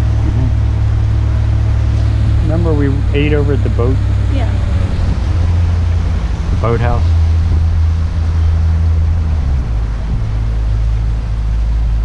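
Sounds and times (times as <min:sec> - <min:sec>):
outboard motor drone: 0:00.0 - 0:12.0.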